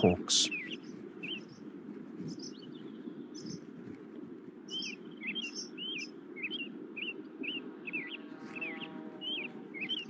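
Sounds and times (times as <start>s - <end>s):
steady low hiss: 0.0s - 10.0s.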